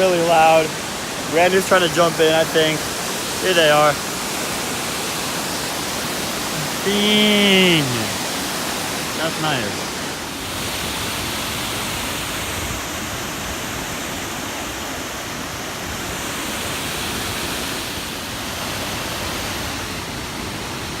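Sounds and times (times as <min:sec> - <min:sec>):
loud waterfall rushing: 0:00.0 - 0:21.0.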